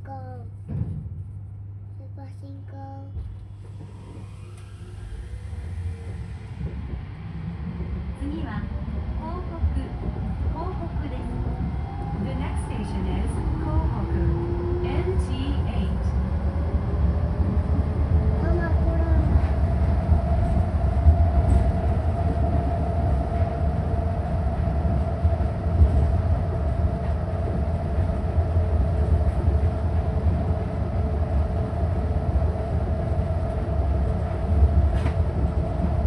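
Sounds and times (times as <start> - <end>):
train rumbling on track: 0.0 - 36.0.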